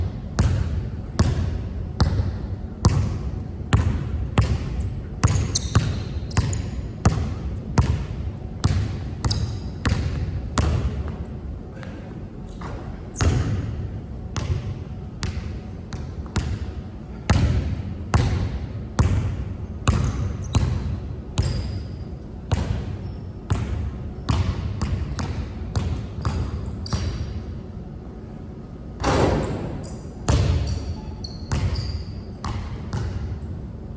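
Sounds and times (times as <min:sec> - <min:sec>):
basketball bouncing on hard court: 0:00.4 - 0:11.2, 0:12.6 - 0:13.8, 0:14.4 - 0:16.7, 0:17.3 - 0:21.9, 0:22.5 - 0:22.9, 0:23.5 - 0:27.4, 0:29.0 - 0:33.3.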